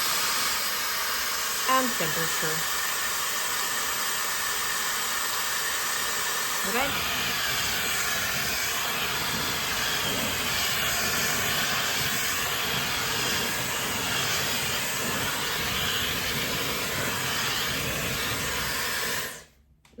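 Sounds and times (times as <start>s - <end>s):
hair dryer hissing: 0.0s - 19.6s.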